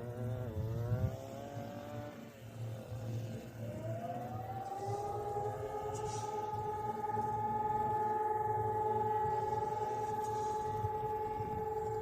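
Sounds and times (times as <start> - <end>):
sirens wailing: 0.0 - 12.0.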